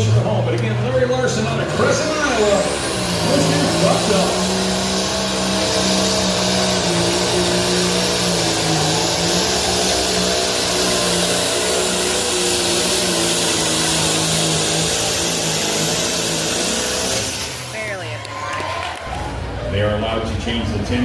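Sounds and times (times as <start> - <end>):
tractor engine at high revs: 0.0 - 18.2.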